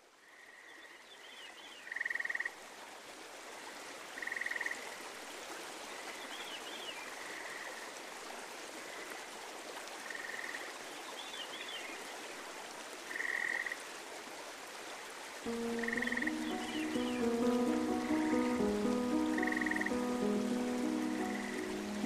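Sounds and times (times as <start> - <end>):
rushing water: 2.6 - 22.0.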